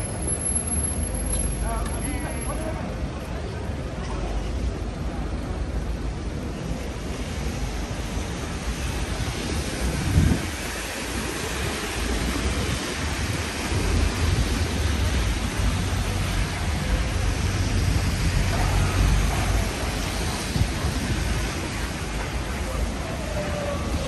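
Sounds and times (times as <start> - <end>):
rain hissing on street: 0.0 - 24.0.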